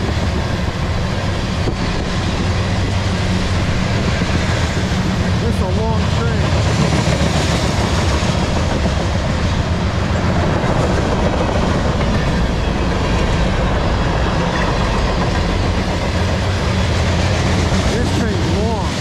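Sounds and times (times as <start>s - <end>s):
freight train cars rumbling on rails: 0.0s - 19.0s.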